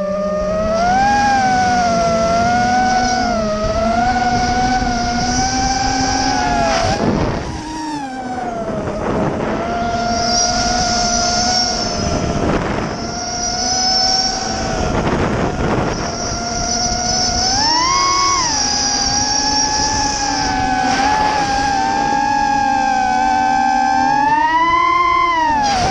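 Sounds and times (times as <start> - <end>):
drone motors whining: 0.0 - 25.9
wind noise rushes: 0.4 - 25.9.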